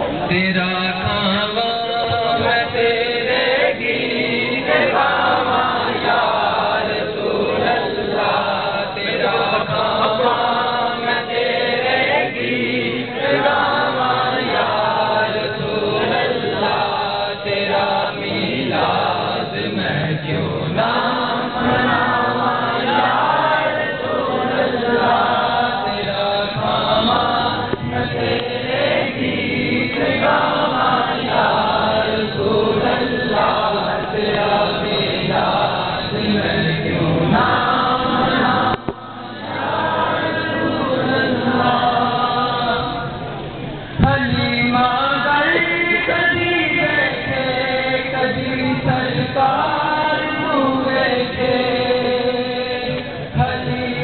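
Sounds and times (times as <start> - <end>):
men chanting together: 0.9 - 43.1, 44.0 - 54.0.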